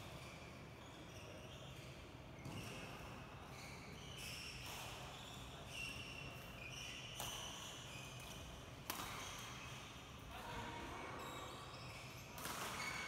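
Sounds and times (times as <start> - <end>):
shoes squeaking on court: 0.2 - 9.9, 11.2 - 13.0.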